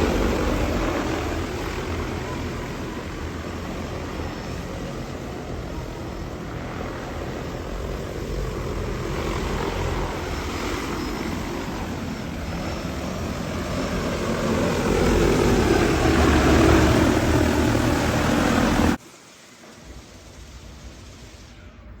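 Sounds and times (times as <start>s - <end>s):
drone propellers droning: 0.0s - 22.0s.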